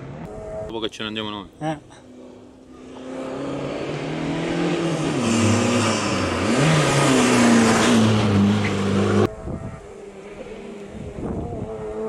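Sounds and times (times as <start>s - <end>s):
race car engine revving: 2.2s - 12.0s.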